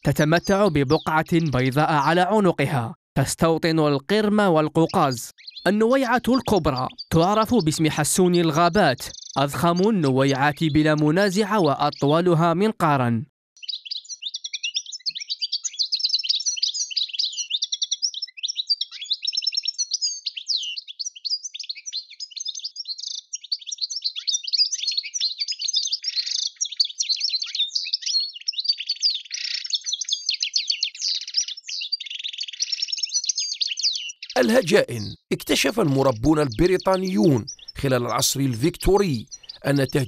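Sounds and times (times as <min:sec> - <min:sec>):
goldfinch singing: 0:00.0 - 0:40.0.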